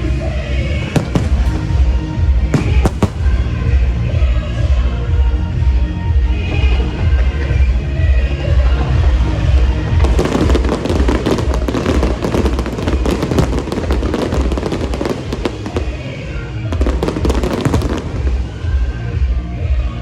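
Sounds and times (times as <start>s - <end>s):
fireworks crackling: 0.0s - 4.9s, 6.2s - 19.4s
music with low beat: 0.8s - 16.0s, 16.7s - 20.0s.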